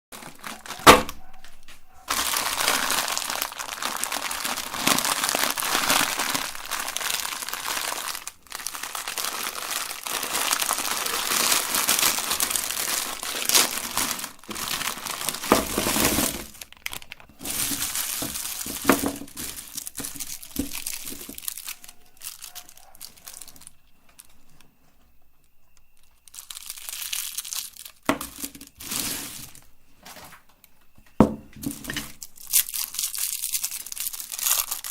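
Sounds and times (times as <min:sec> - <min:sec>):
candy wrappers crinkling: 0:00.1 - 0:24.7, 0:25.4 - 0:34.9.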